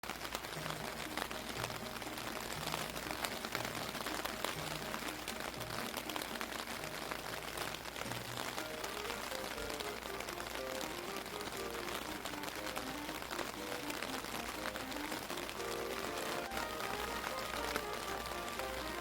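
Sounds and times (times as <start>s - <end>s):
heavy rain: 0.0s - 19.0s
soft background music: 0.0s - 19.0s.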